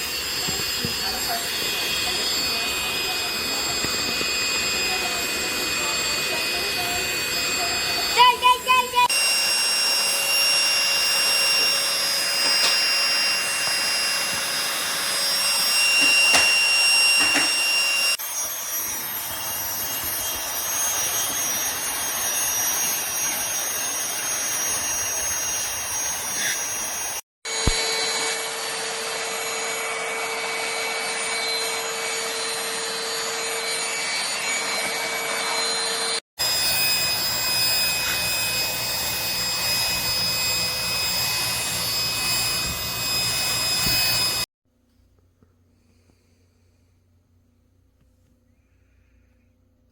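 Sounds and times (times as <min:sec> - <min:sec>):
handheld vacuum cleaner running: 0:00.0 - 0:44.5.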